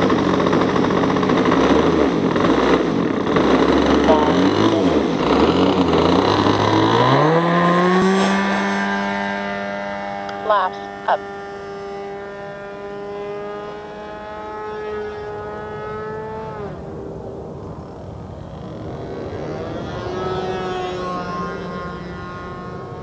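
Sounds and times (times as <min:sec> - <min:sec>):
model plane engine droning: 0:00.0 - 0:23.0.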